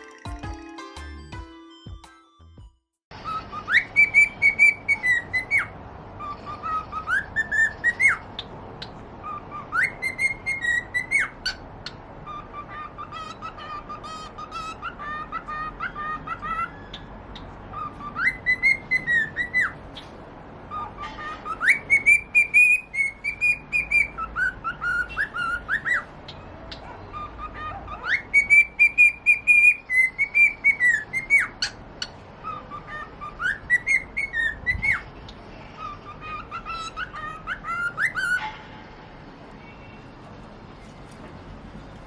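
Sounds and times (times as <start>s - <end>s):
cockatiel whistling: 3.2s - 20.0s, 20.7s - 35.1s, 35.8s - 38.5s.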